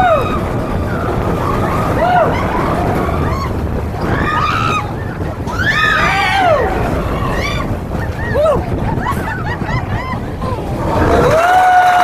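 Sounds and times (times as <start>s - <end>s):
roller coaster running: 0.0s - 12.0s
wind and track noise: 0.0s - 12.0s.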